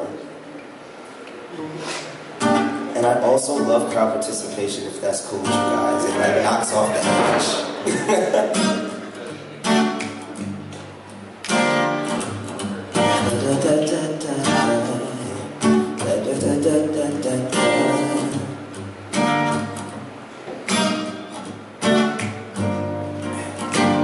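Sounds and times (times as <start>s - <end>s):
acoustic guitar chords ringing: 2.2s - 24.0s.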